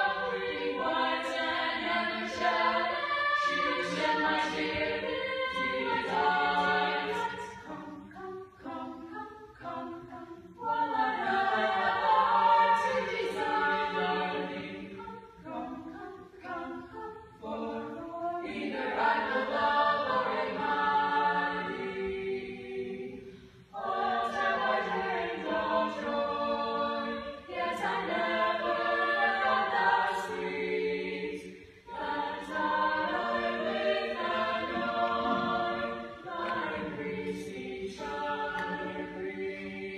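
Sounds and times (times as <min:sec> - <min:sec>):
mixed choir singing a cappella: 0:00.0 - 0:39.9.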